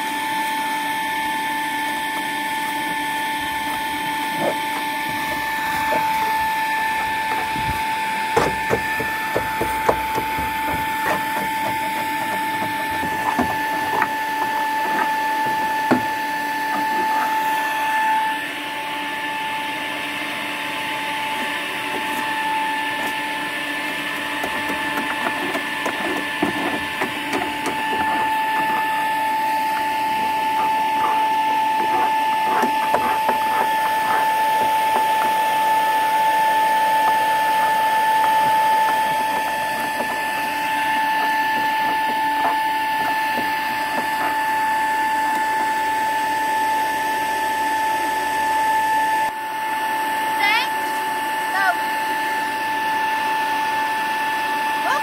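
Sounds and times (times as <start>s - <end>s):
electric fan motor whine: 0.0s - 55.0s
hand tools chipping wood: 2.5s - 19.1s, 20.8s - 49.0s.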